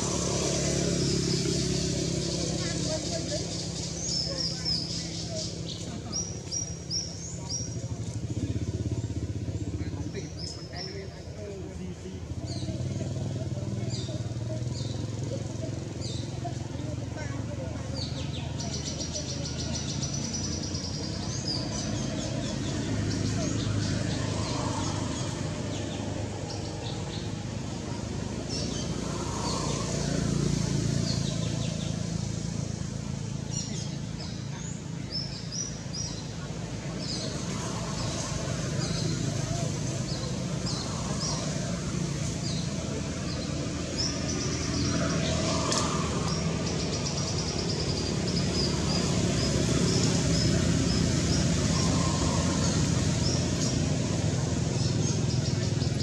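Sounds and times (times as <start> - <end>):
birds chirping: 0.0 - 56.0
low rumble of distant traffic: 0.0 - 56.0.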